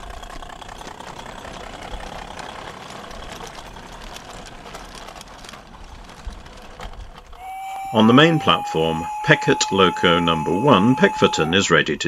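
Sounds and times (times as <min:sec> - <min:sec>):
model train running on rails: 0:00.0 - 0:12.0.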